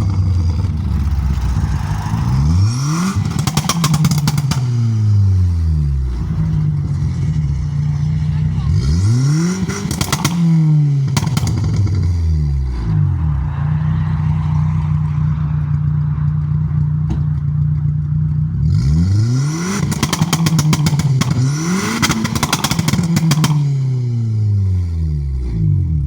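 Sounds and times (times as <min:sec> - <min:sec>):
exhaust crackles and pops: 0:00.0 - 0:13.5, 0:14.8 - 0:23.7
car engine idling and revving: 0:00.0 - 0:26.0.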